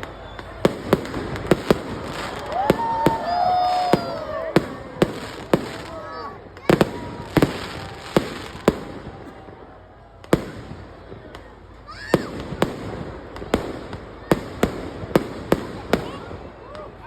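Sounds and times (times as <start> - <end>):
firecrackers banging: 0.0 - 17.0
steady background noise: 0.0 - 17.0.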